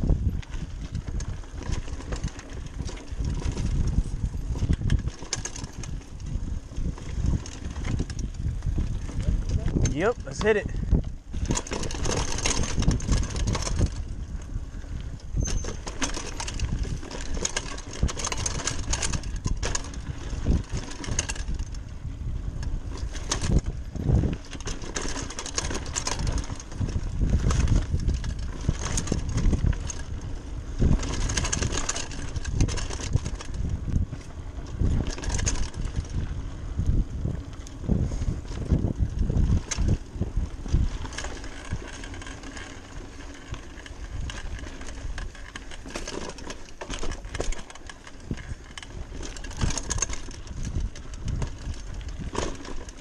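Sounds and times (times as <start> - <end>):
wind on microphone: 0.0 - 45.9, 48.1 - 53.0
bike rattling over bumps: 0.0 - 53.0
tyres over dirt and roots: 0.0 - 53.0.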